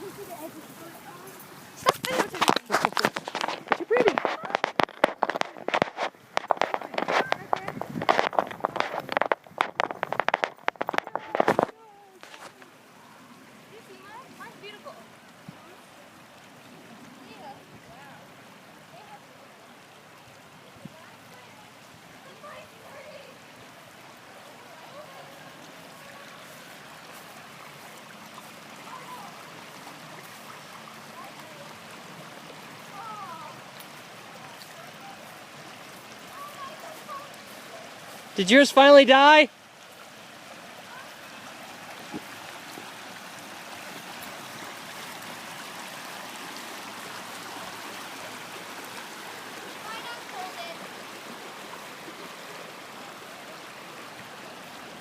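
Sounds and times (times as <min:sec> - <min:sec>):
stream water over rocks: 0:00.0 - 0:55.0.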